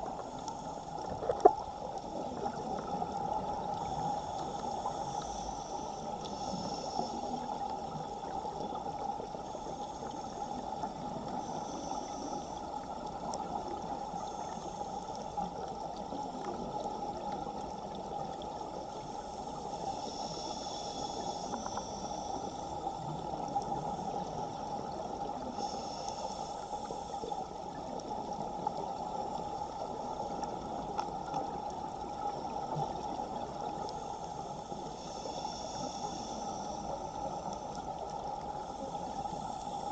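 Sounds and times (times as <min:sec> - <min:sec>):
underwater water rush: 0:00.0 - 0:39.9.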